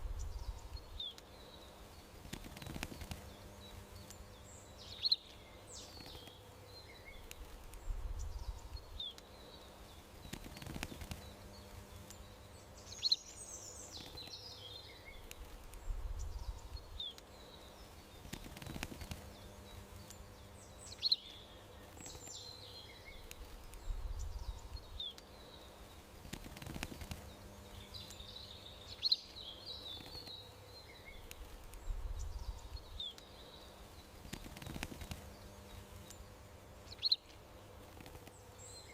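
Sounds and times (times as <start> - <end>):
birds chirping: 0.0 - 38.9
faint low rumble: 0.0 - 38.9.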